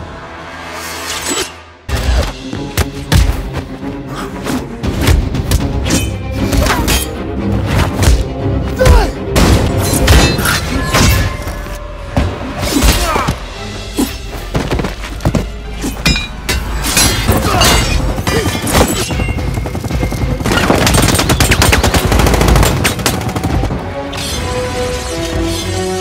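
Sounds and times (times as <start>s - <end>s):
film score music: 0.0s - 26.0s.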